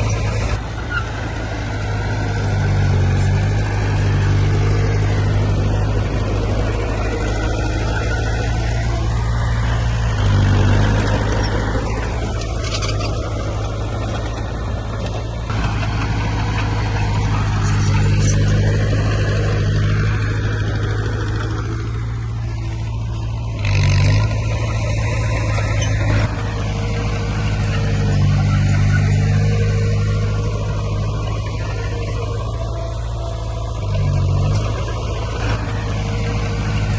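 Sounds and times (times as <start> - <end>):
diesel engine of earthmoving equipment: 0.0 - 36.9.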